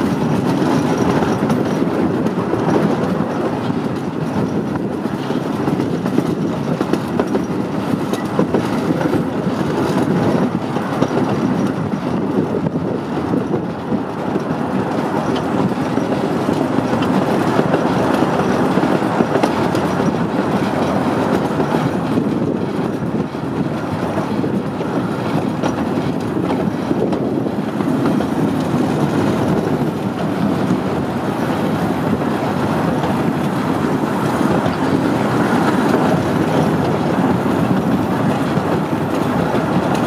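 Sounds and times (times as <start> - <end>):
train wheels on rails: 0.0 - 40.0.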